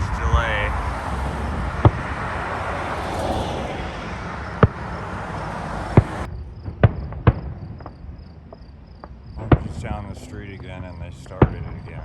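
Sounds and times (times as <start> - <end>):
distant fireworks bangs: 0.0 - 12.0
steady rushing background: 0.0 - 12.0.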